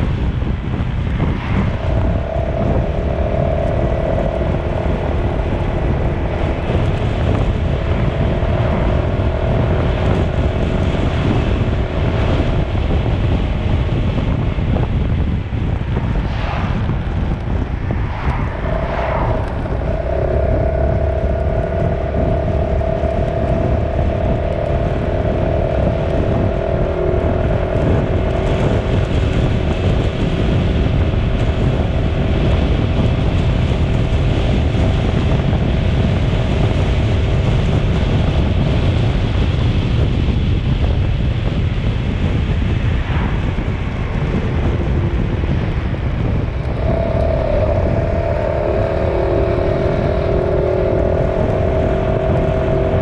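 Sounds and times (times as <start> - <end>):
vehicle low rumble: 0.0 - 53.0
two-note whine: 1.2 - 15.1, 17.2 - 39.0, 43.5 - 53.0.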